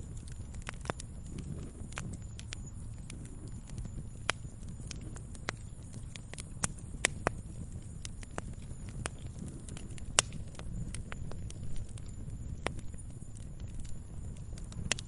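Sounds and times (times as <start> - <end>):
campfire crackling and popping: 0.0 - 15.0
low rumble of fire: 0.0 - 15.0.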